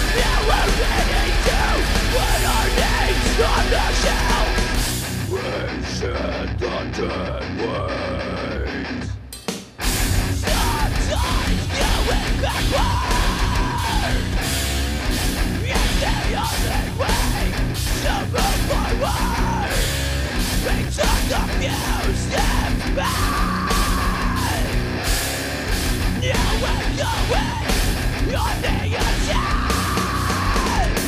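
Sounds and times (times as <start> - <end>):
pounding drums: 0.0 - 5.2, 9.4 - 31.0
high lead guitar melody: 0.0 - 6.6, 9.3 - 31.0
distorted guitars: 0.0 - 31.0.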